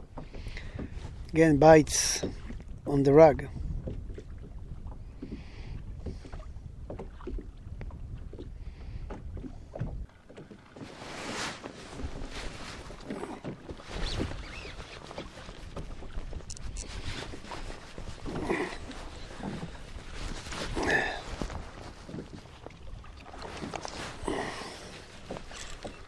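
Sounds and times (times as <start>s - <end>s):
wind rumbling on microphone: 0.0s - 10.2s, 11.9s - 26.0s
small waves splashing against hull: 0.0s - 26.0s.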